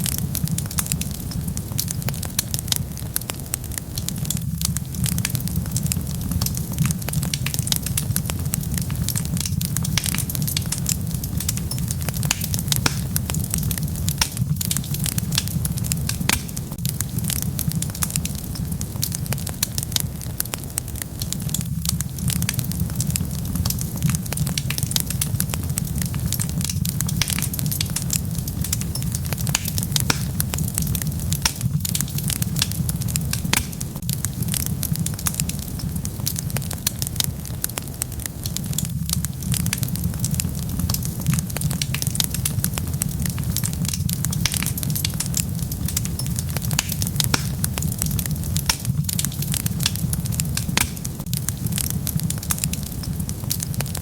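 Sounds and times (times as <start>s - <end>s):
fire crackles and pops: 0.0s - 54.0s
wood fire rumbling: 0.0s - 54.0s.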